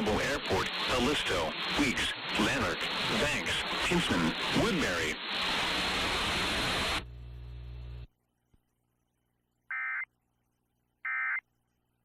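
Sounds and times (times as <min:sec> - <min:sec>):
broadcast hiss and hum: 0:00.0 - 0:11.4.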